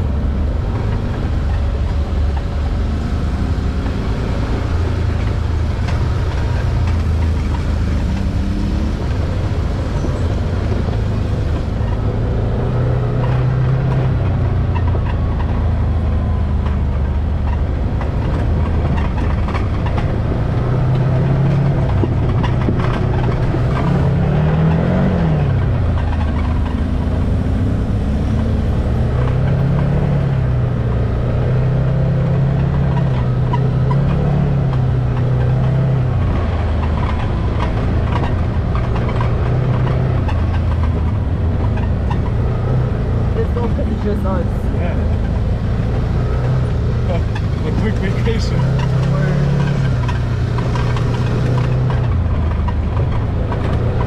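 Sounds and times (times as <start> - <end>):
off-road vehicle engine running: 0.0 - 54.0
road noise from rough track: 0.0 - 54.0.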